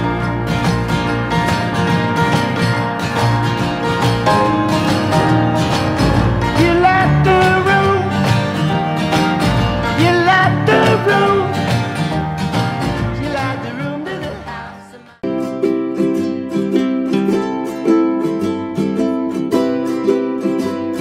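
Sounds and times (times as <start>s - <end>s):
country music with plucked guitar: 0.0s - 21.0s.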